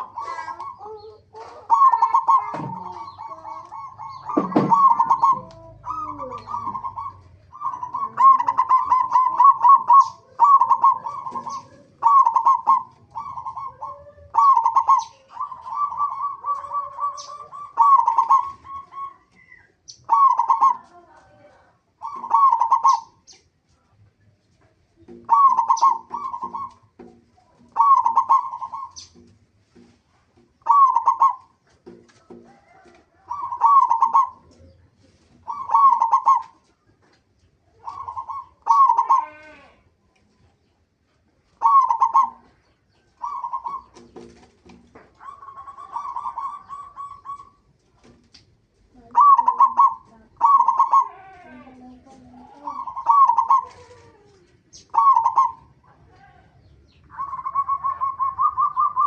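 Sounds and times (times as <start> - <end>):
dove cooing trills: 0.0 - 23.4, 25.0 - 29.4, 30.4 - 39.8, 41.4 - 48.0, 48.8 - 59.0.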